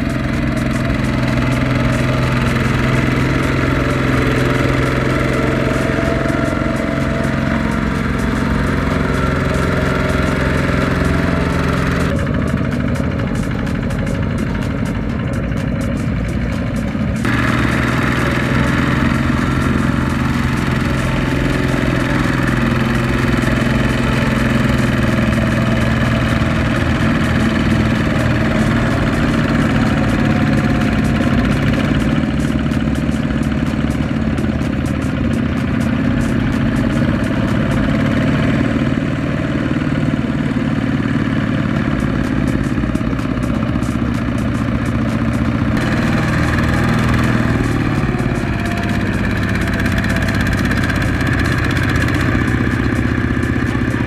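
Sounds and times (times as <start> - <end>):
single-cylinder diesel engine running: 0.0 - 54.0.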